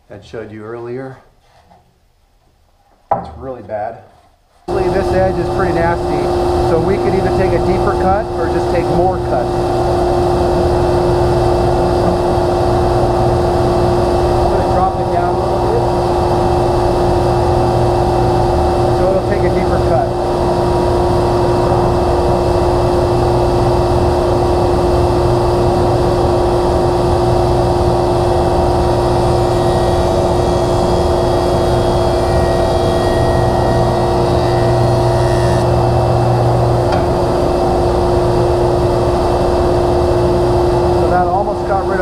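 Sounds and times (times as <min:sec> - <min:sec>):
jointer cutting board: 0:04.7 - 0:24.0, 0:26.4 - 0:42.0.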